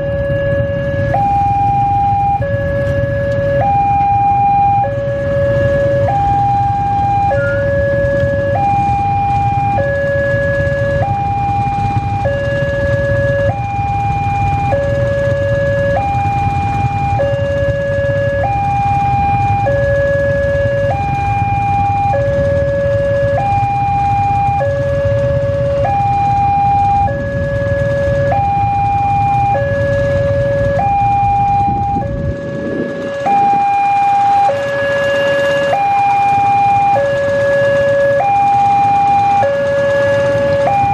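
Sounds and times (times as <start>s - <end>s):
level crossing two-tone alarm: 0.0s - 40.9s
motorcycle engines idling: 0.0s - 40.9s.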